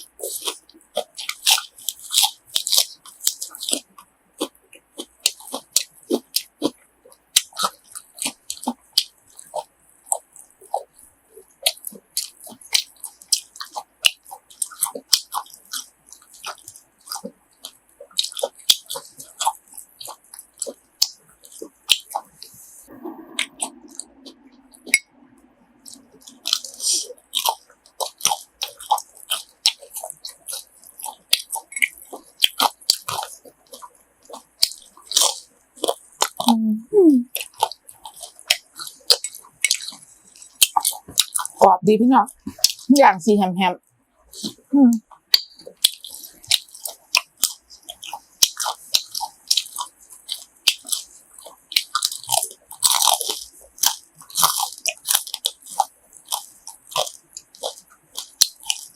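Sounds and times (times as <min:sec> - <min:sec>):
chewing crunchy food: 0:00.0 - 0:43.1, 0:43.7 - 0:58.9.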